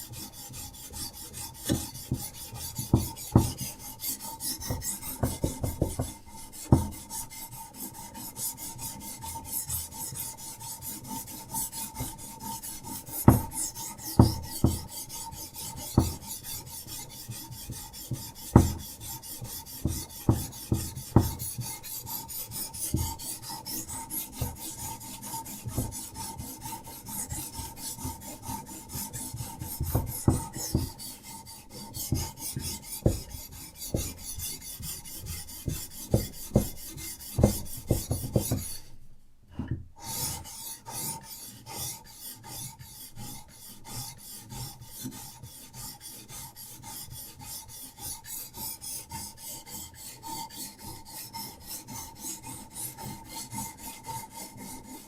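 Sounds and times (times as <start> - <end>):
sharpening stone rasping on blade: 0.0 - 38.9, 40.0 - 55.0.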